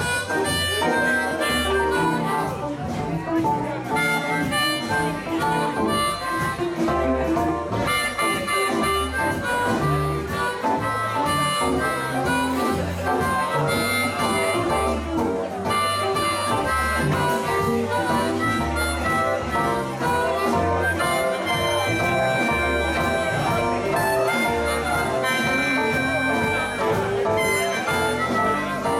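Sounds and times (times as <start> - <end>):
amplified harmonica: 0.0 - 28.9
electric blues band playing: 0.0 - 28.9.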